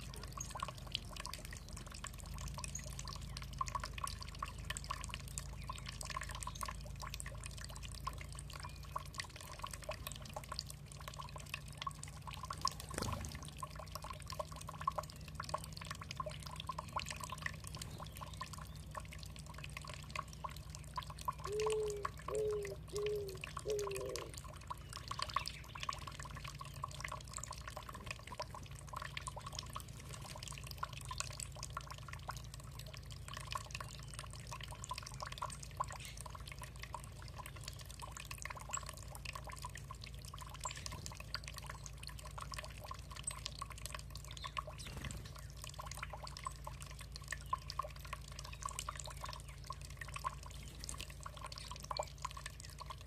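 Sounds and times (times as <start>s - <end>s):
low steady hum: 0.0s - 53.0s
water dripping and trickling: 0.0s - 53.0s.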